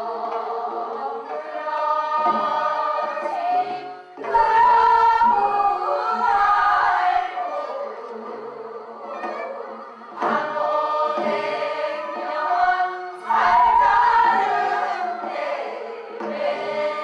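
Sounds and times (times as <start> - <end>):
voices singing in chorus: 0.0 - 17.0.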